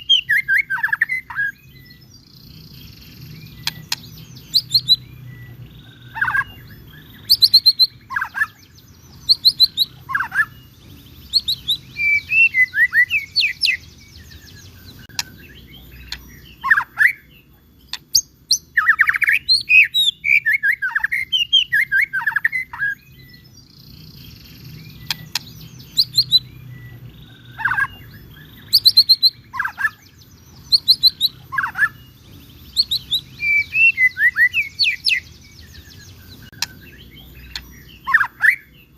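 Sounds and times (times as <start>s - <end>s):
songbird whistling song: 0.0s - 38.9s.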